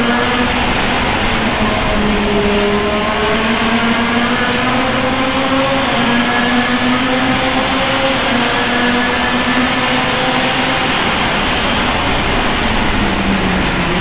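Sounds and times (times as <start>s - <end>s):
race car engine at high revs: 0.0s - 14.0s
wind and road noise: 0.0s - 14.0s.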